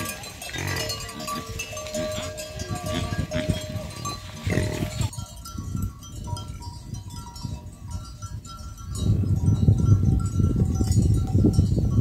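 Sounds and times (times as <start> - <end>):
animal bells clinking: 0.0 - 12.0.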